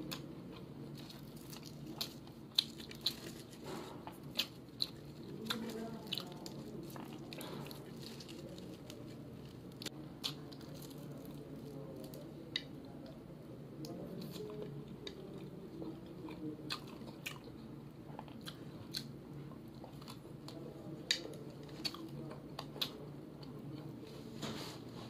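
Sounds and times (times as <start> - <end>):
chewing crunchy fried fish: 0.0 - 13.2, 13.8 - 24.0
low steady hum: 0.0 - 25.0.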